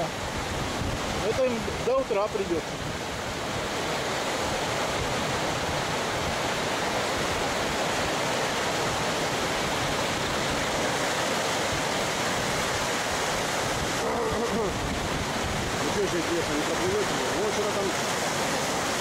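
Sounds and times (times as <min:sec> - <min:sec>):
floodwater rushing in river: 0:00.0 - 0:19.0.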